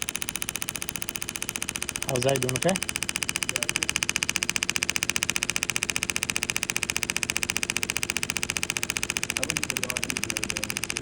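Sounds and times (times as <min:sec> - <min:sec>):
fast train of sharp clicks: 0:00.0 - 0:11.0.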